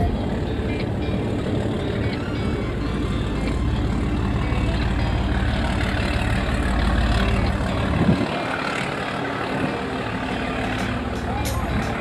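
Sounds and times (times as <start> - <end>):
boat diesel engine throbbing: 0.0 - 12.0.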